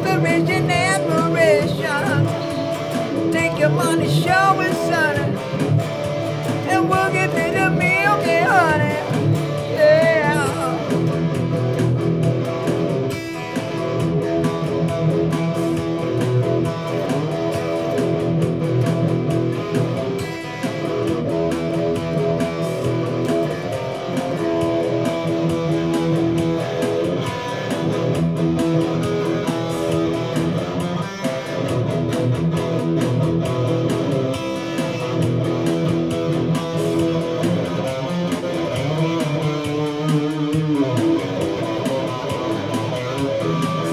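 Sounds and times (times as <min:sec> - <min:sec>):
drum machine rhythm: 0:00.0 - 0:43.9
electric guitar strumming chords: 0:00.0 - 0:43.9.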